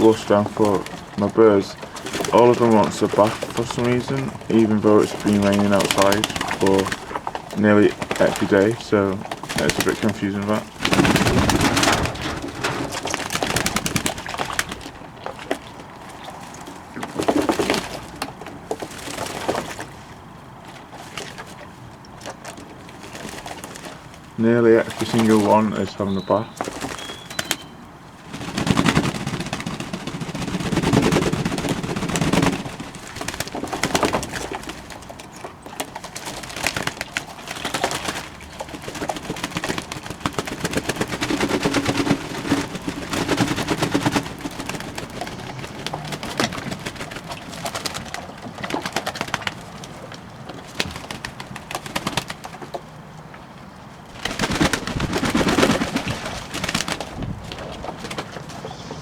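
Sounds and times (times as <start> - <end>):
dove cooing: 0.0 - 51.8, 54.5 - 59.0
doves splashing in water: 0.0 - 59.0.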